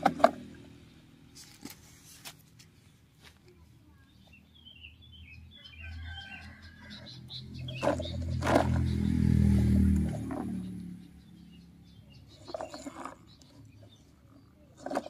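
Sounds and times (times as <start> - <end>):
birds chirping faintly: 0.4 - 15.0.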